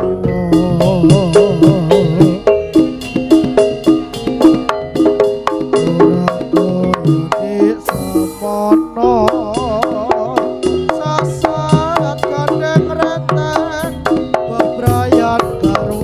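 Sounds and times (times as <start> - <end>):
hand drums beating: 0.0 - 16.0
struck gamelan instruments: 0.0 - 16.0
wavering melody: 0.0 - 16.0.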